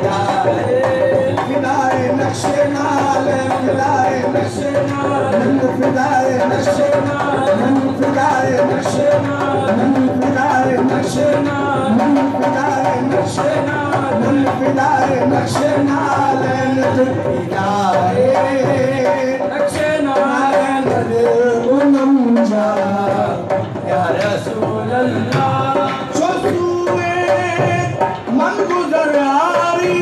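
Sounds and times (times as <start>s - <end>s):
tabla drumming: 0.0s - 30.0s
voices singing devotional song: 0.0s - 30.0s.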